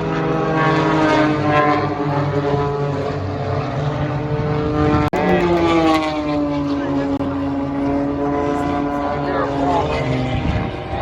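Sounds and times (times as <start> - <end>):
propeller aircraft droning overhead: 0.0 - 11.0.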